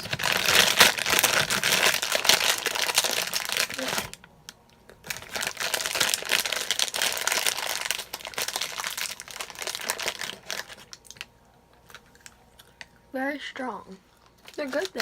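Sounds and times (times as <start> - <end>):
plastic bag crinkling: 0.0 - 4.3, 4.9 - 12.8, 14.2 - 15.0.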